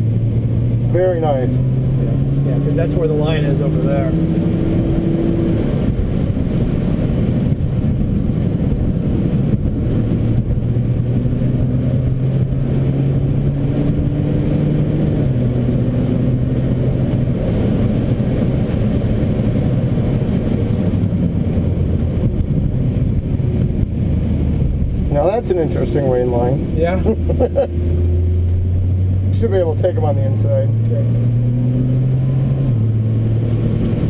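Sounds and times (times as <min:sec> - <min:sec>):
car engine revving: 0:00.0 - 0:34.0
road and tyre rumble: 0:00.0 - 0:34.0.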